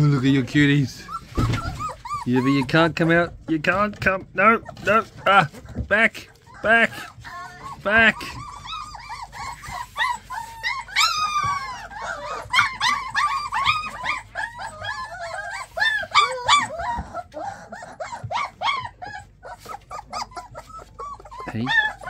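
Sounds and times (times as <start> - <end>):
puppies whining: 0.0 - 22.0.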